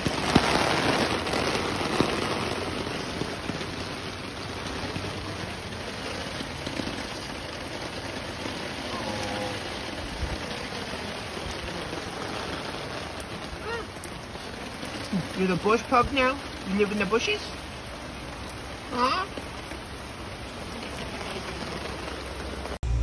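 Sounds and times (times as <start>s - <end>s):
rain on an umbrella: 0.0s - 23.0s.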